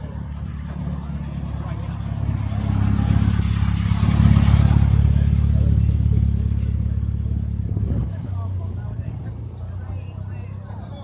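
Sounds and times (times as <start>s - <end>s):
car engine rumbling past: 0.0s - 11.0s.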